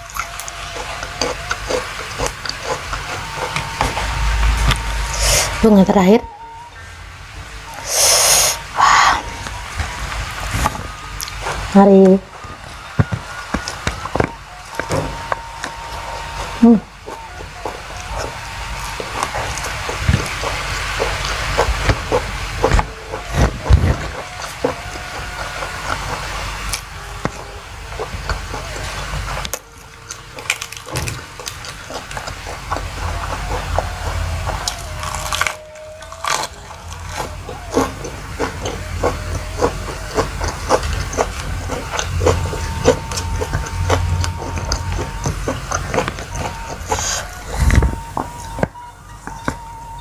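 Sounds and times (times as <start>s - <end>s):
chewing and crunching food: 0.0s - 5.6s, 7.6s - 50.0s.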